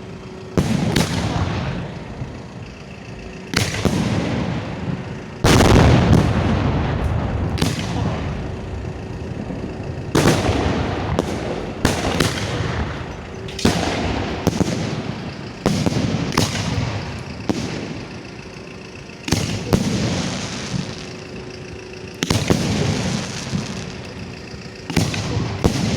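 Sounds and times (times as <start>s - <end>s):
fireworks booming: 0.0s - 25.9s.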